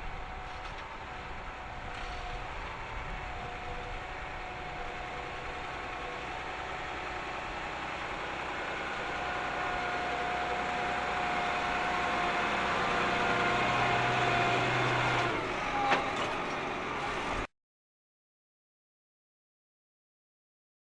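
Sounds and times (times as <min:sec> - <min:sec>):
tractor diesel engine running: 0:00.0 - 0:17.5.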